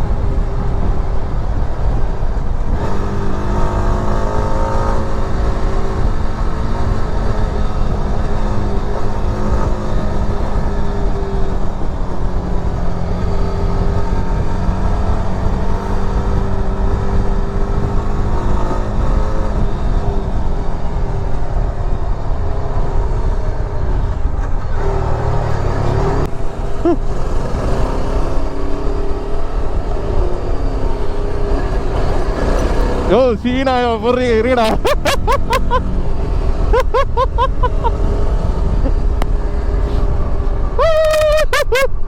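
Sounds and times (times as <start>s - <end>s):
motorcycle engine running: 0.0s - 20.1s, 21.0s - 40.8s.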